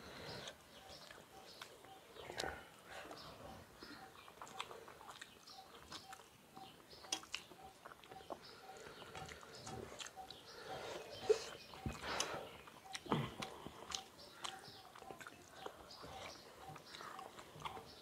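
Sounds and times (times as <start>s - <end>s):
chewing and wet mouth noises: 0.3s - 18.0s.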